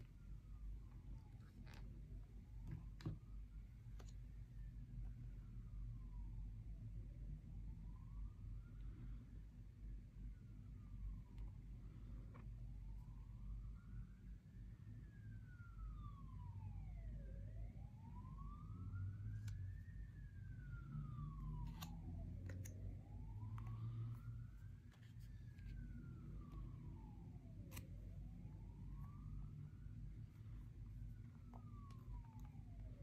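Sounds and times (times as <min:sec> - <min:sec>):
low steady rumble: 0:00.0 - 0:33.0
emergency vehicle siren wailing: 0:00.1 - 0:03.8, 0:04.6 - 0:09.3, 0:10.2 - 0:33.0.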